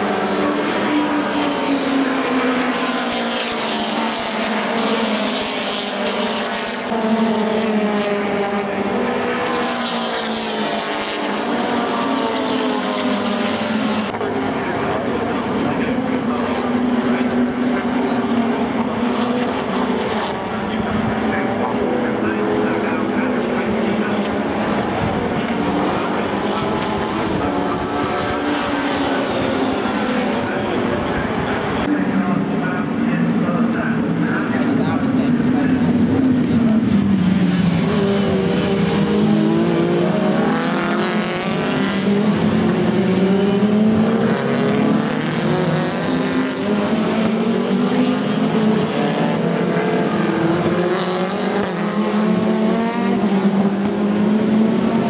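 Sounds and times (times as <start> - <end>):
race cars racing past: 0.0 - 55.0.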